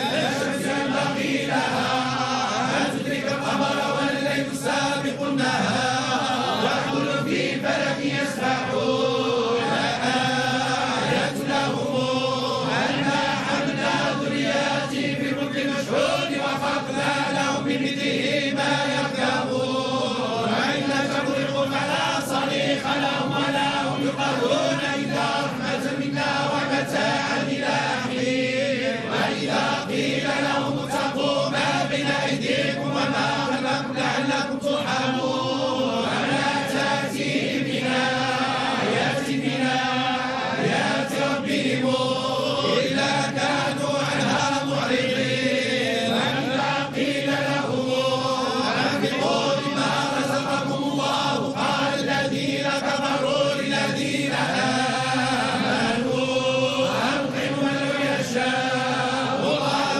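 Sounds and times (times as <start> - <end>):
men chanting in unison: 0.0 - 59.9.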